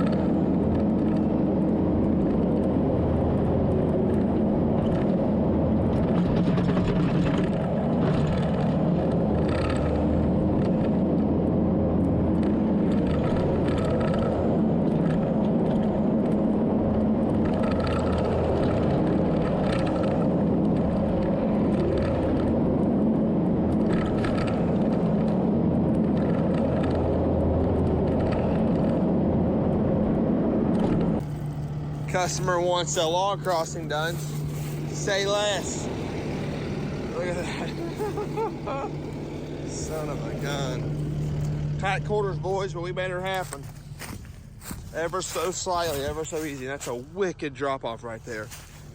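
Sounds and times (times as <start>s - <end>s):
diesel engine under load: 0.0s - 48.9s.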